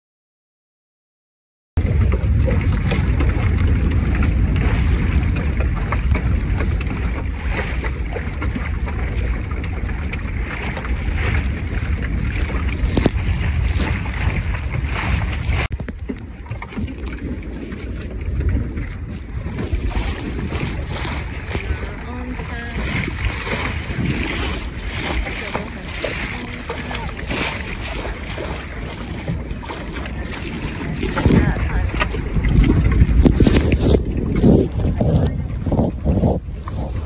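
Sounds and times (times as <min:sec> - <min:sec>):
water splashing along hull: 0:01.8 - 0:37.0
wind buffeting microphone: 0:01.8 - 0:37.0.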